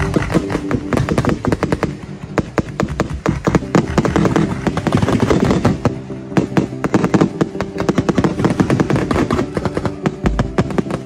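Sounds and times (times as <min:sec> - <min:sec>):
fireworks crackling: 0:00.0 - 0:11.0
music playing: 0:00.0 - 0:11.0.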